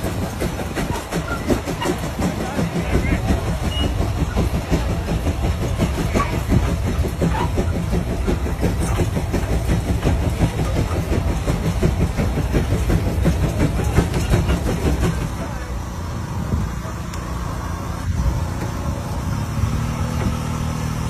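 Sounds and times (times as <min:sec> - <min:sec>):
steam traction engine chuffing: 0:00.0 - 0:21.0.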